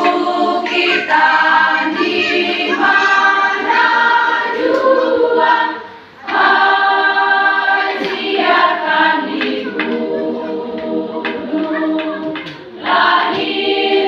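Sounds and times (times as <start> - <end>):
church choir singing: 0.0 - 14.0.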